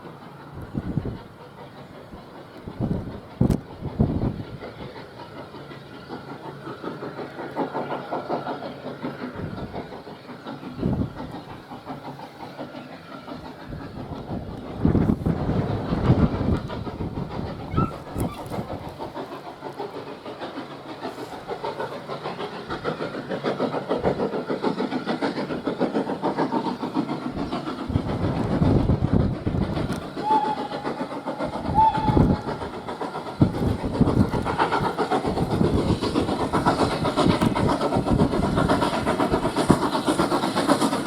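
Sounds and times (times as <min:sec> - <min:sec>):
steam train passing: 0:00.0 - 0:41.0
wheels clattering on rails: 0:00.0 - 0:41.0.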